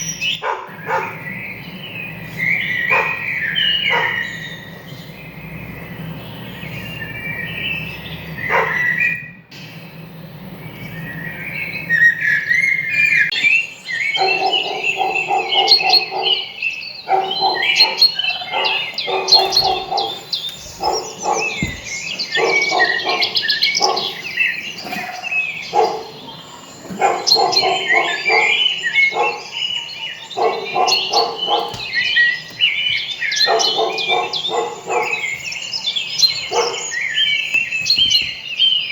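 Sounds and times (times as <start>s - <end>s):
lower repeated bird call: 0.0s - 38.4s
small birds chirping: 0.0s - 38.9s.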